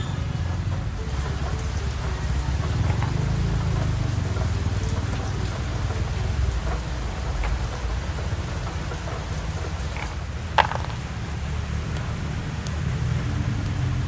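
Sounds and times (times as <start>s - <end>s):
steady rain hissing: 0.0s - 14.0s.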